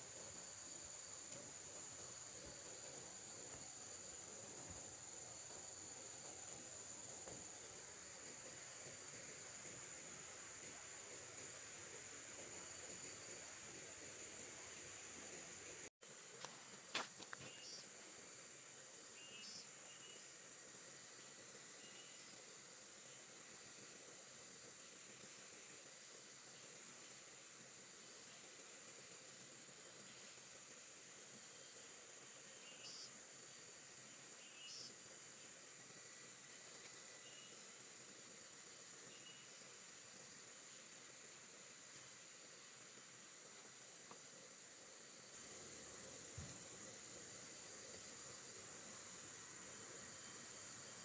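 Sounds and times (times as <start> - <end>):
high-pitched insect hum: 0.0 - 51.0.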